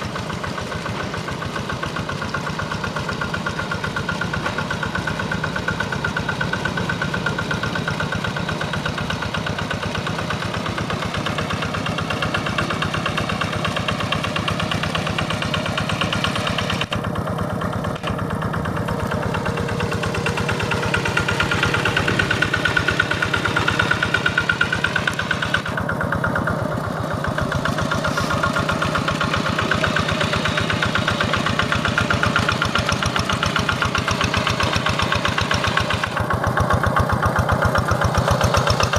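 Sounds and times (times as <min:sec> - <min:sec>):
hand tractor engine running: 0:00.0 - 0:38.9.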